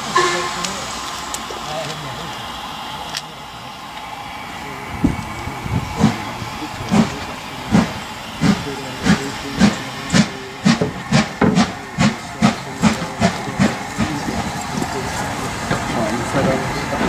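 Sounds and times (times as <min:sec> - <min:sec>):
steam hissing: 0:00.0 - 0:17.0
steam locomotive exhaust beats: 0:00.0 - 0:17.0.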